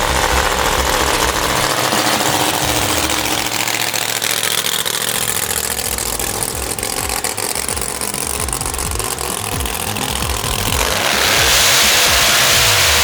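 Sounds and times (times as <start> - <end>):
rough racing car engine: 0.0 - 13.0.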